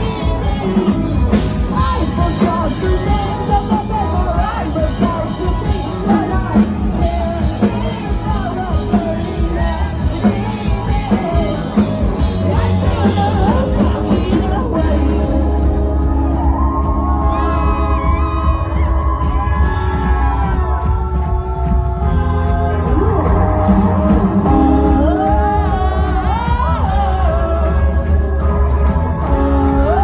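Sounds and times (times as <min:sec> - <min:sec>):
high vocalist singing: 0:00.0 - 0:30.0
live rock band playing: 0:00.0 - 0:30.0.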